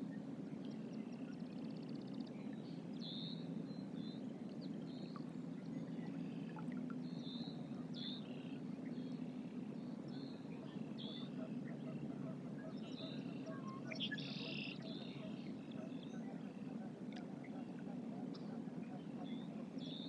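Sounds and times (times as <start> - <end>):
river water rumbling: 2.6 - 20.0.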